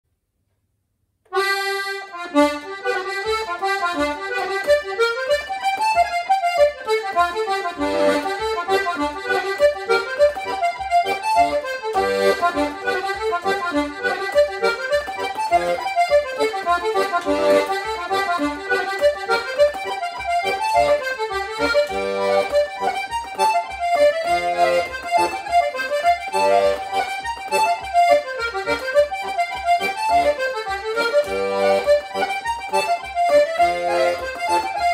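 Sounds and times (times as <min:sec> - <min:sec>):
accordion playing a fast reel: 0:01.3 - 0:34.9.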